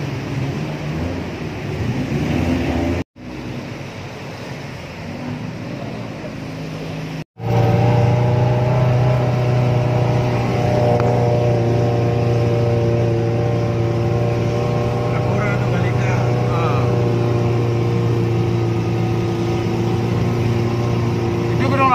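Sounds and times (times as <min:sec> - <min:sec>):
jeep engine running while driving: 0:00.0 - 0:21.9.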